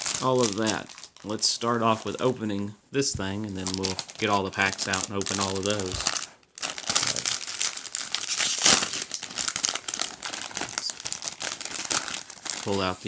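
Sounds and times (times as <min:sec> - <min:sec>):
packaging crinkling and tearing: 0:00.0 - 0:01.4, 0:03.5 - 0:13.0.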